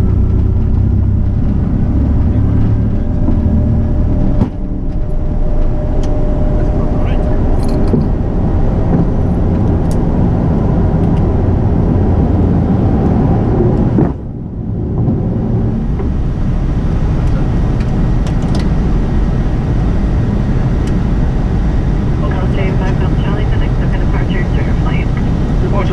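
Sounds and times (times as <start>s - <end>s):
jet engines rumbling on takeoff: 0.0s - 25.9s.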